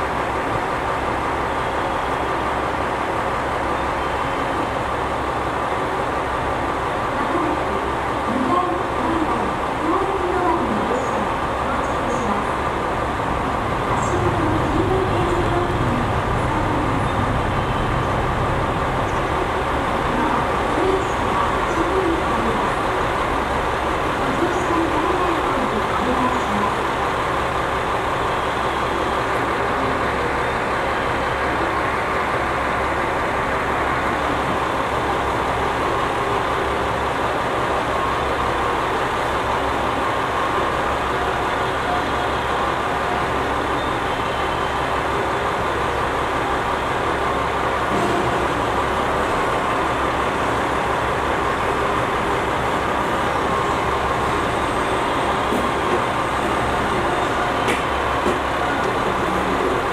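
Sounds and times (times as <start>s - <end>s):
diesel railcar engine rumbling: 0.0s - 59.9s.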